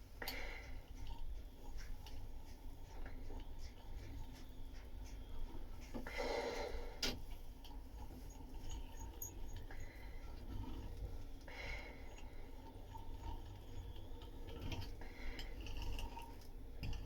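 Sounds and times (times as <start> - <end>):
small scrapes and ticks: 0.0 - 6.1, 7.0 - 17.0.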